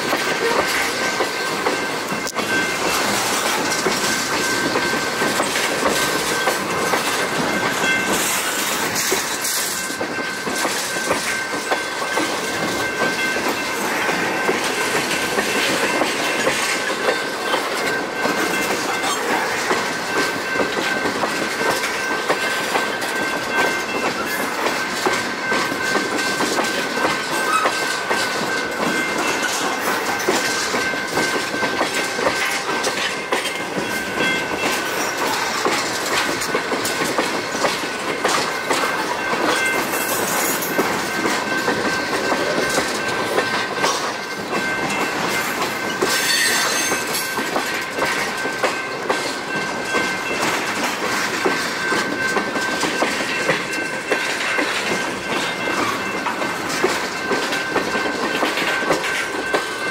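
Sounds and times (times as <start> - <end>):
train cars rumbling and rattling: 0.0 - 59.9
train wheels clicking over rail joints: 0.0 - 59.9.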